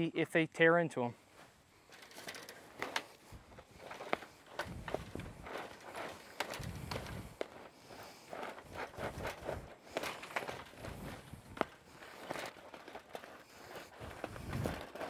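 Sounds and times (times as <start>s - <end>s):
gloves rubbing on chicken wire: 1.3s - 15.0s
wire rattling with clicks: 1.8s - 15.0s.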